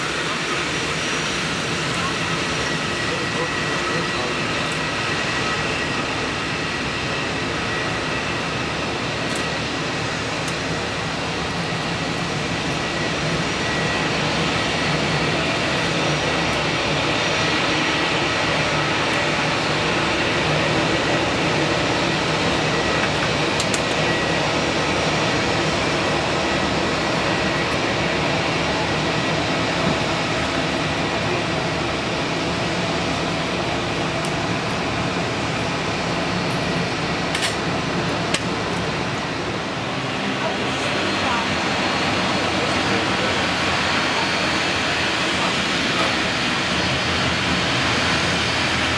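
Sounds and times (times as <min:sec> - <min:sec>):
jet engines whining: 0:00.0 - 0:48.9.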